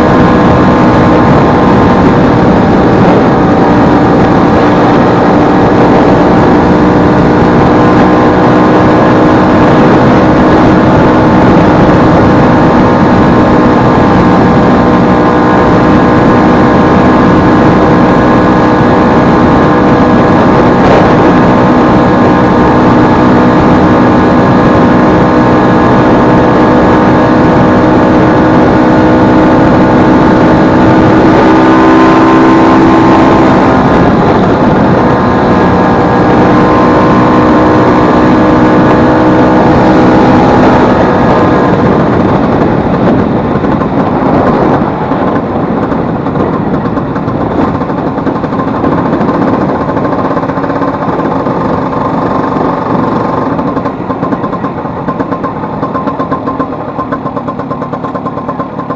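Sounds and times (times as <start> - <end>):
scooter two-stroke engine running: 0.0 - 58.9.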